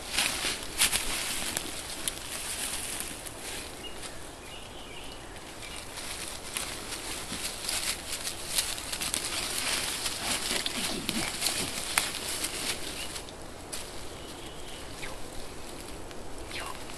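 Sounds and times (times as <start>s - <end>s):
rustling in dry leaves: 0.0s - 16.9s.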